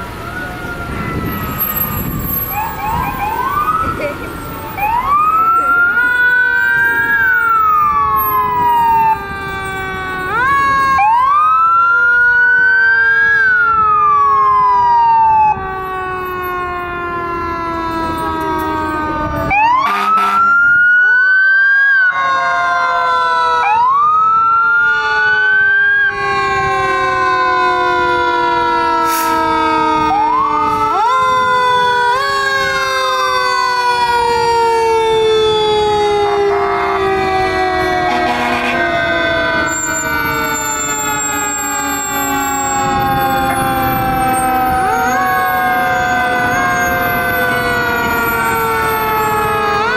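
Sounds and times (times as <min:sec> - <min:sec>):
fire truck siren winding up: 0:00.0 - 0:49.9
siren long falling tone: 0:00.0 - 0:49.9.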